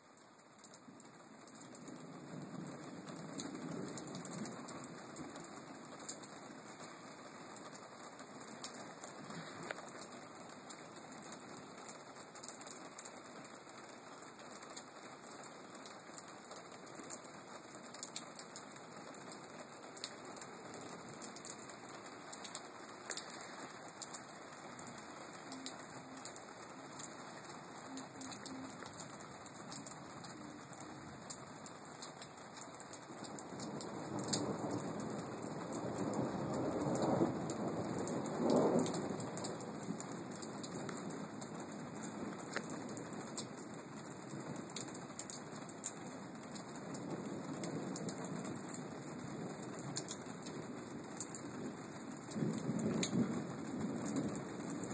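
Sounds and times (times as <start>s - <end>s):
raindrop ticks: 0.0s - 54.9s
steady rain hiss: 0.0s - 54.9s.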